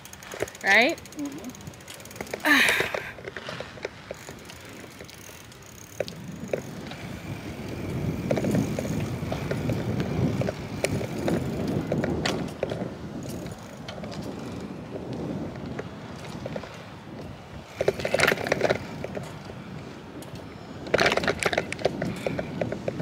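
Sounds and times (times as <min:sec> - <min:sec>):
bicycles rolling on pavement: 0:00.0 - 0:23.0
clicks and knocks from bikes: 0:00.0 - 0:23.0.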